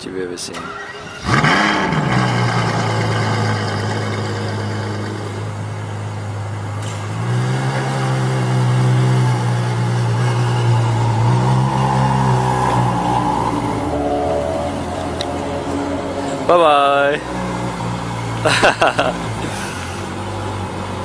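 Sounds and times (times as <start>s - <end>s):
car engine idling: 0.4s - 21.0s.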